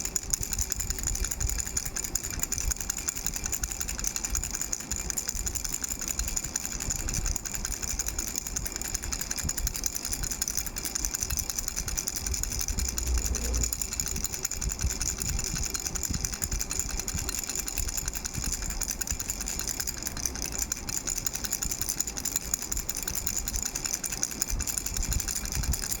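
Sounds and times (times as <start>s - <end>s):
rattle being shaken: 0.0s - 26.0s.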